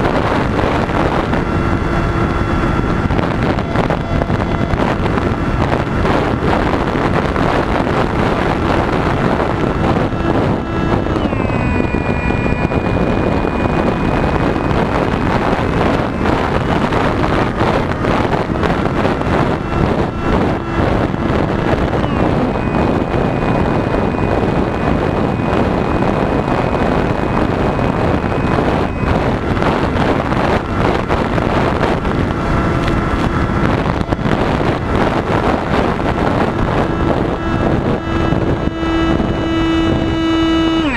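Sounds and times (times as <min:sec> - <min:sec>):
electric motor and propeller whine: 0:00.0 - 0:40.9
wind rush on microphone: 0:00.0 - 0:40.9.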